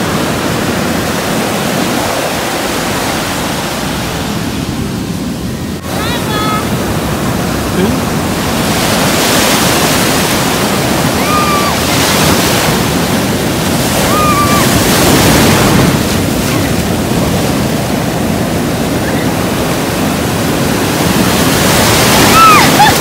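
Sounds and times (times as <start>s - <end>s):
waves breaking: 0.0s - 23.0s.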